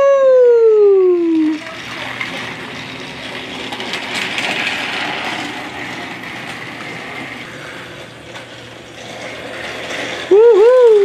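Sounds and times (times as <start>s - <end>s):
toy train motor whirring: 1.0s - 11.0s
wheels rattling on track: 1.2s - 11.0s.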